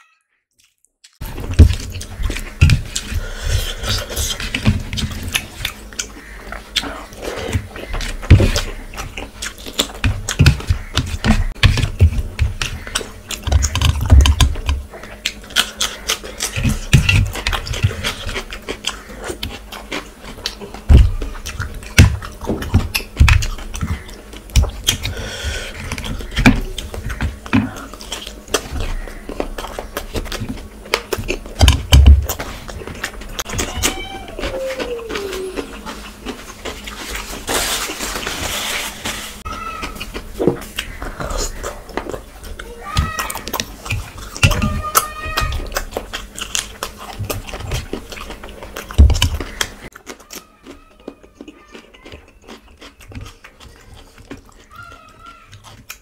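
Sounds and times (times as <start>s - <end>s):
wet chewing and lip smacking: 0.6s - 37.4s, 39.8s - 56.0s.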